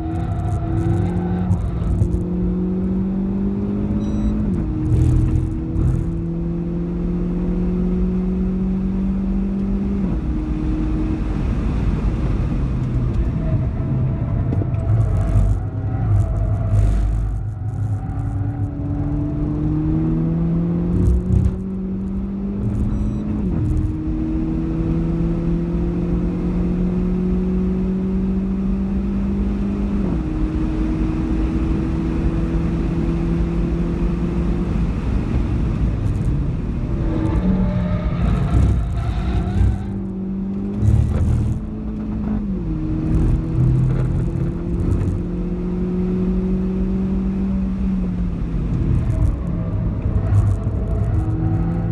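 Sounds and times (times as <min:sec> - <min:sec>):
car engine accelerating from cabin: 0:00.0 - 0:51.9.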